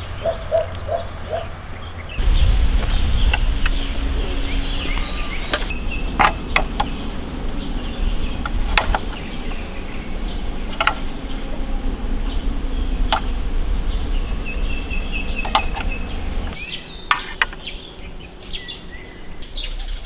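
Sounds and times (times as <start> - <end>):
birds chirping: 0.0 - 20.0
low wind rumble on microphone: 0.0 - 20.0.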